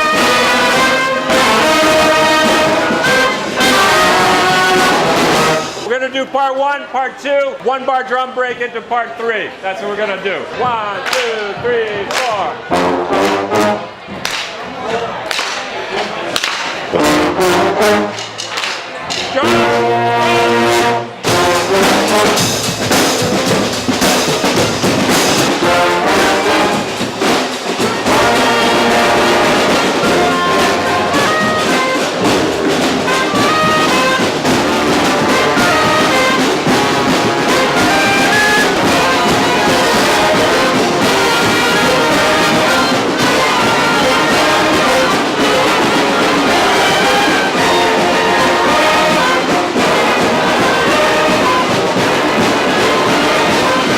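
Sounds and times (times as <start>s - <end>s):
drums: 0.0s - 6.4s, 10.5s - 53.9s
brass band playing funk: 0.0s - 6.6s, 10.5s - 53.9s.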